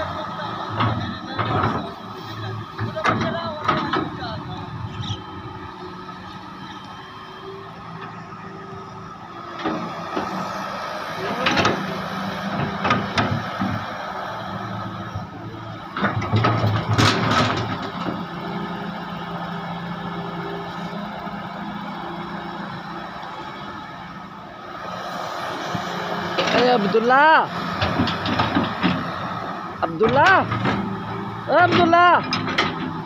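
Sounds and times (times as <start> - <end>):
excavator diesel engine running: 0.0 - 33.0
excavator working noise bursts: 0.0 - 33.0.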